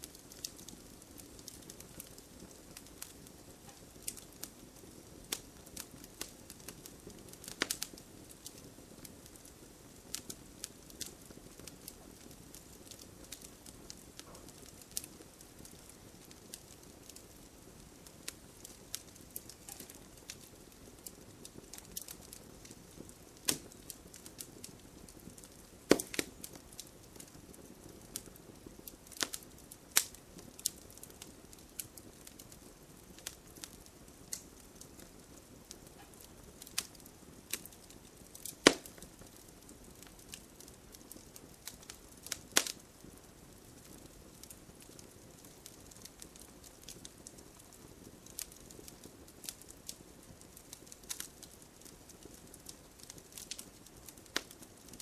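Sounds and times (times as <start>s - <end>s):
soft steady hiss: 0.0s - 55.0s
wood fire crackling: 0.0s - 55.0s.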